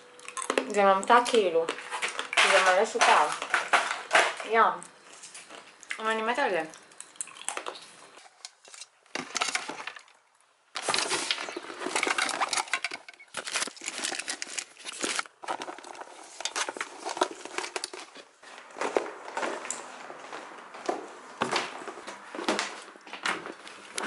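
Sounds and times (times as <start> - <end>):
rustling and crinkling: 0.3 - 5.8, 7.5 - 24.0.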